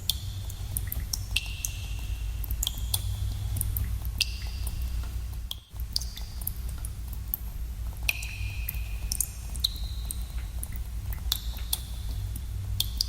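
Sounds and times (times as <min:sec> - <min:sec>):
water drops plinking in cave: 0:00.0 - 0:06.9, 0:08.1 - 0:12.2, 0:12.8 - 0:13.0
steady low rumble: 0:00.0 - 0:13.0.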